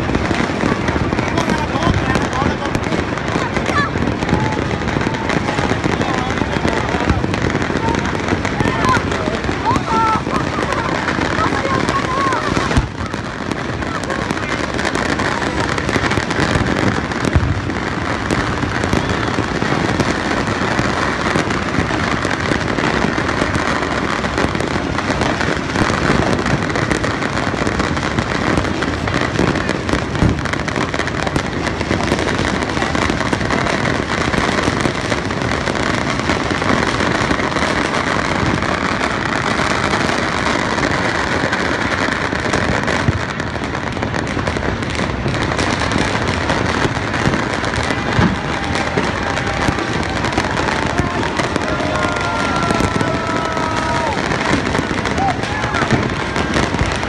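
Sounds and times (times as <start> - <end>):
fireworks crackling and popping: 0.0 - 57.0
loud firework bangs: 0.0 - 57.0.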